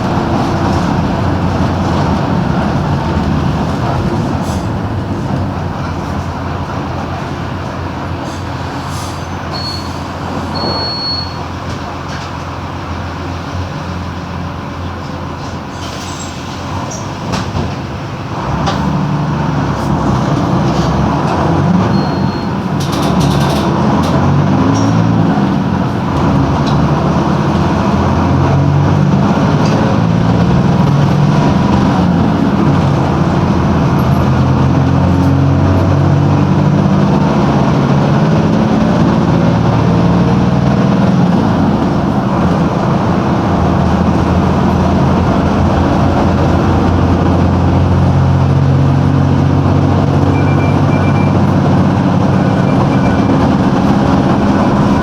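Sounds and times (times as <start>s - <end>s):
diesel bus engine revving: 0.0s - 55.0s.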